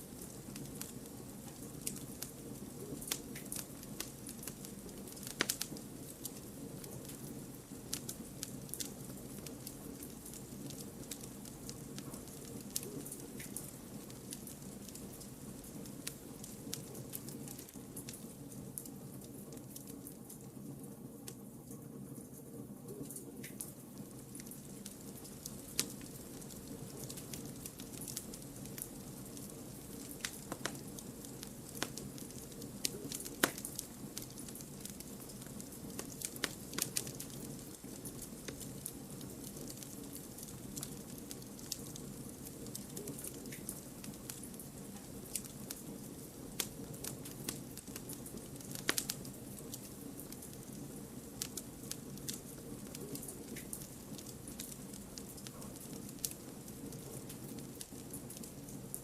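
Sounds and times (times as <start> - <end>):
campfire crackling: 0.0 - 20.5, 23.0 - 59.0.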